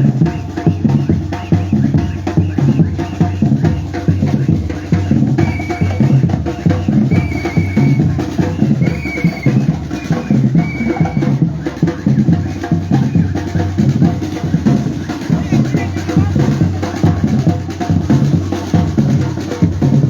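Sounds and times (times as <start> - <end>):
drum group playing fast rhythm: 0.0 - 20.0.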